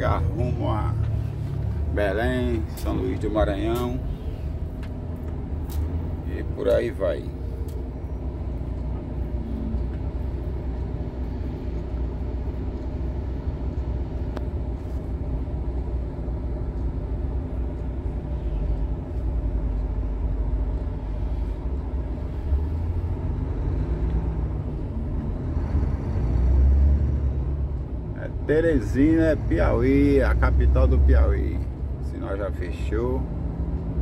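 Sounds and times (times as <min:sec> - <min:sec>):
truck diesel engine rumbling: 0:00.0 - 0:34.0.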